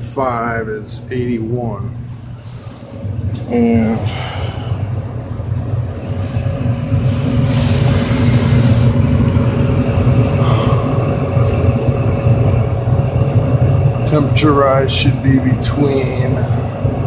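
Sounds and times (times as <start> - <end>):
faint steady hum: 0.0 - 17.0
gas furnace low rumble: 0.0 - 17.0.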